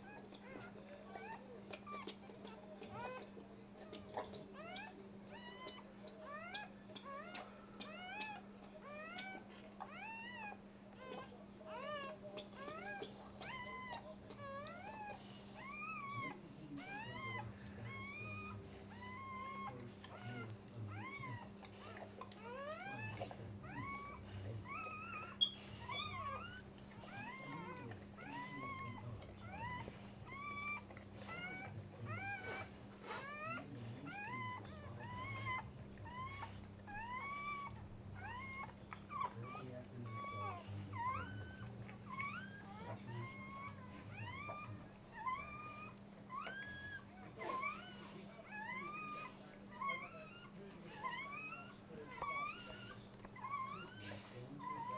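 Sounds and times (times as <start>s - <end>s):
puppy crying in squeaks: 4.6s - 54.9s.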